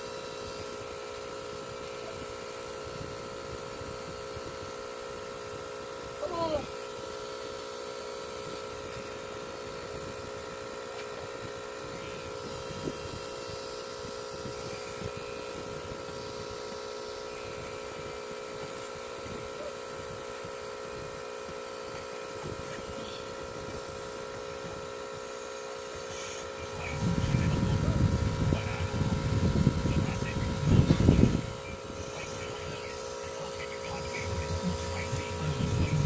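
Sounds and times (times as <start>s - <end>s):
tattoo machine humming: 0.0s - 36.0s.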